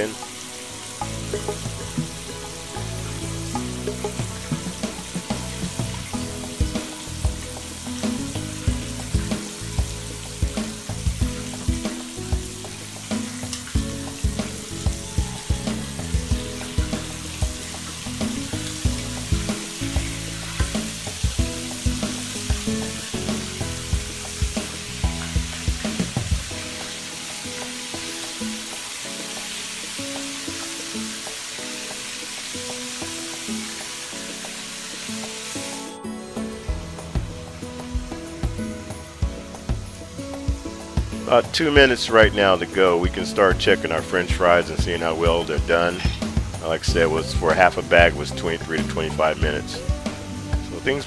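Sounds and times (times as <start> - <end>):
background music with beat: 0.0 - 51.0
chicken deep-frying in oil: 0.0 - 51.0.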